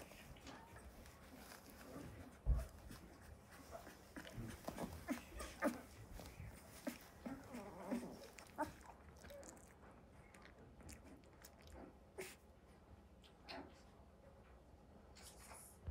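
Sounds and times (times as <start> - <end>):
puppies whimpering and snuffling: 0.0 - 14.1.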